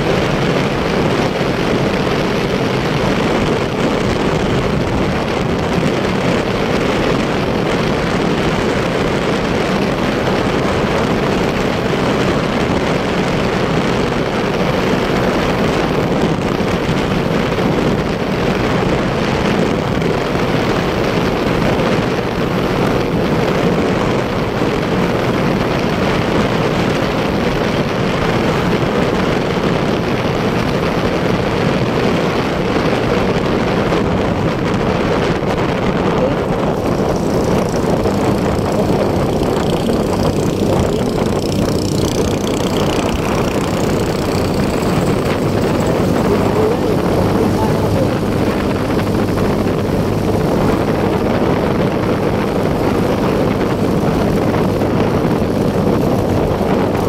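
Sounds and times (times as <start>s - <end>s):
motorcycle engine drone: 0.0s - 57.0s
rushing wind: 0.0s - 57.0s.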